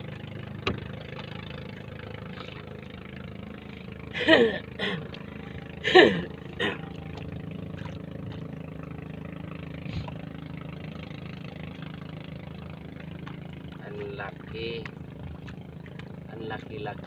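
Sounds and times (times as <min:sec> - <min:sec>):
steady engine hum: 0:00.0 - 0:17.0.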